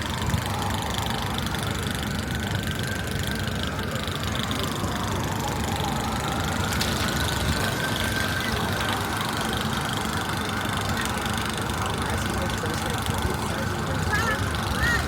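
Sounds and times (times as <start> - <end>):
emergency siren wailing: 0.0 - 15.0
low rumble of street traffic: 0.0 - 15.0.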